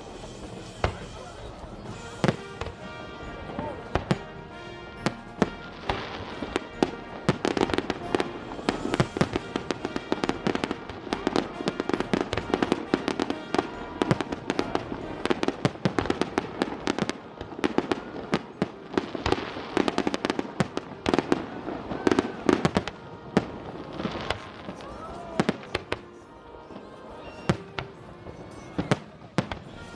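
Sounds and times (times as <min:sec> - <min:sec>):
fireworks bangs and crackles: 0:00.0 - 0:29.9
music playing: 0:00.0 - 0:29.9.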